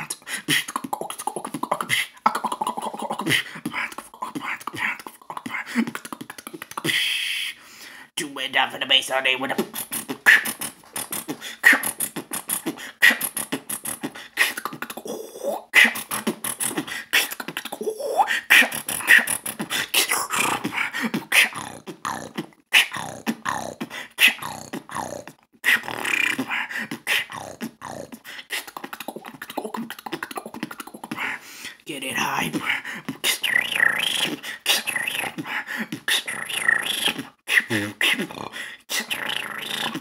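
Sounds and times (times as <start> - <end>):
person beatboxing: 0.0 - 7.6, 8.2 - 40.0.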